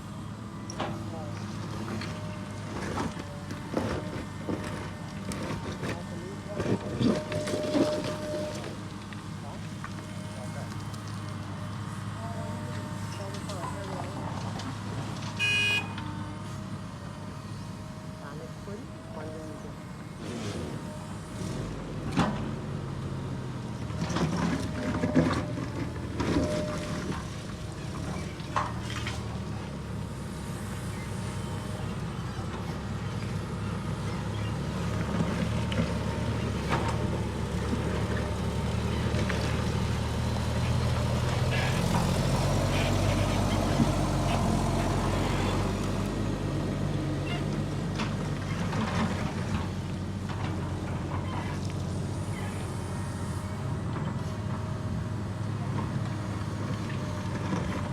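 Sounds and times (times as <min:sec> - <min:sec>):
heavy machinery engine running: 0:00.0 - 0:57.9.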